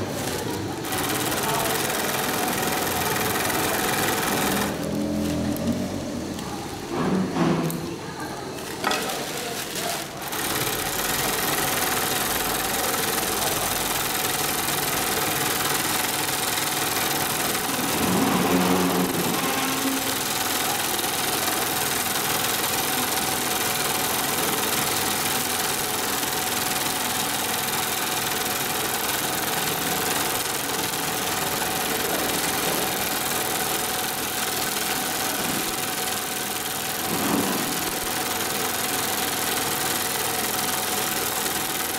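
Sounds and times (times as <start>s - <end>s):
sewing machine running: 0.0s - 7.4s, 8.6s - 41.9s.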